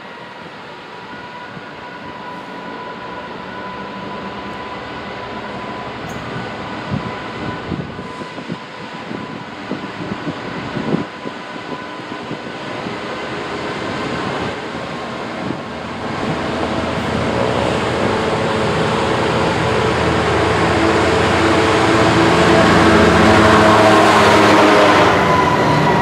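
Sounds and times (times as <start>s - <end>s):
train approaching: 0.0s - 26.0s.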